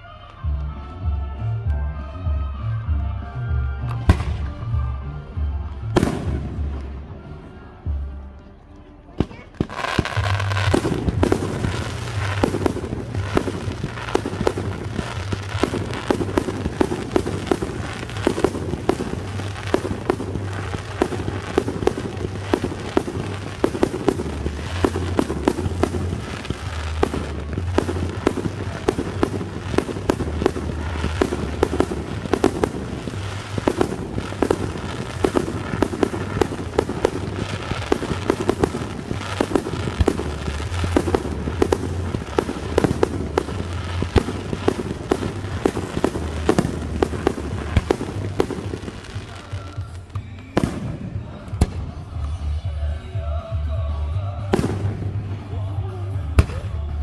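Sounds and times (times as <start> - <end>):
fireworks bursting and crackling: 3.6 - 57.0.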